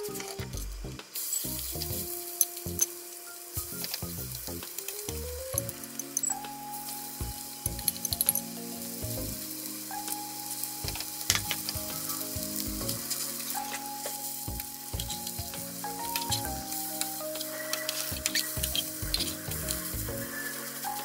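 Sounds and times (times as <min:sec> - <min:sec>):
oil sizzling in a frying pan: 0:01.1 - 0:03.8, 0:06.7 - 0:21.0.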